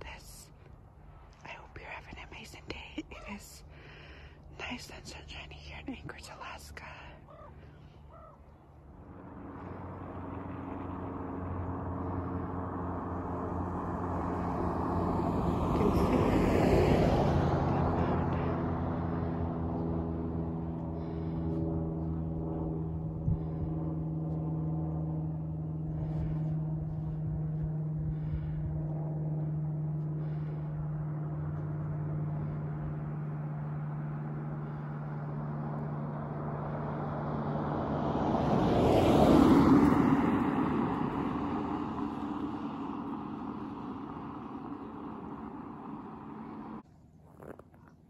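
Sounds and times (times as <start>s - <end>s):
aircraft flying over: 0.0s - 48.0s.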